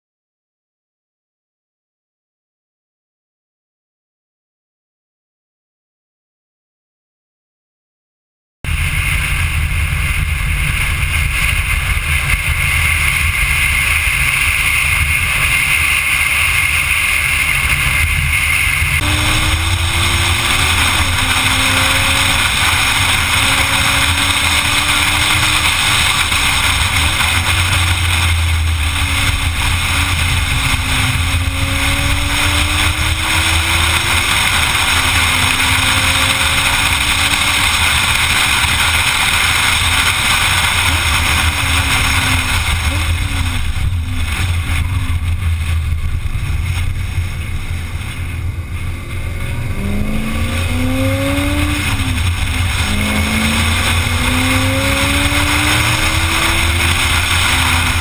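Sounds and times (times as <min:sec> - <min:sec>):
wind and road noise rushing: 0:08.6 - 0:58.0
car engine revving: 0:08.7 - 0:58.0.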